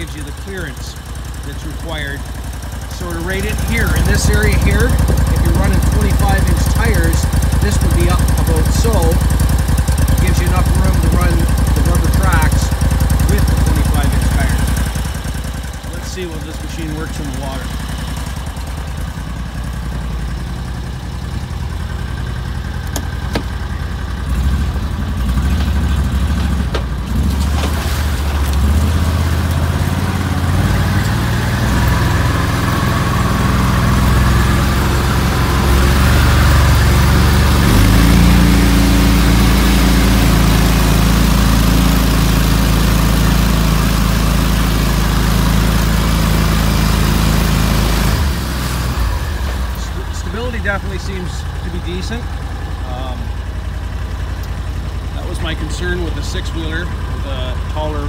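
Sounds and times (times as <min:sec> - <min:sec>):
tires churning water: 0:00.0 - 0:58.0
vehicle engine running under load: 0:00.0 - 0:58.0.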